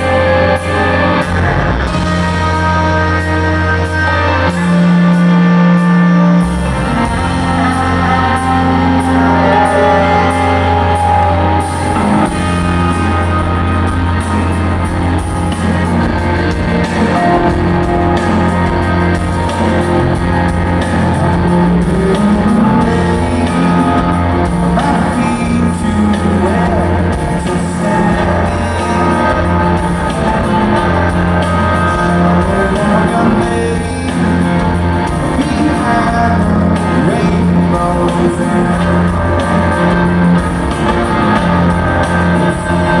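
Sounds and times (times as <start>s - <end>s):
bass line: 0.0s - 43.0s
electric guitar: 0.0s - 43.0s
live rock band playing: 0.0s - 43.0s.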